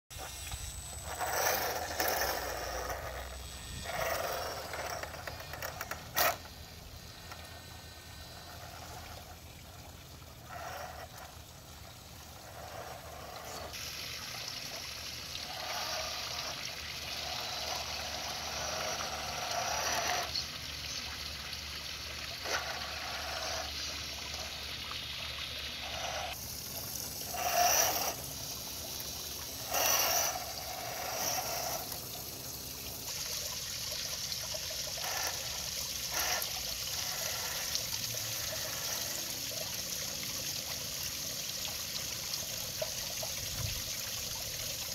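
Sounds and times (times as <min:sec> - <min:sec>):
toy truck electric motor whirring: 0:00.1 - 0:09.6, 0:10.2 - 0:44.9
water trickling: 0:00.2 - 0:44.9.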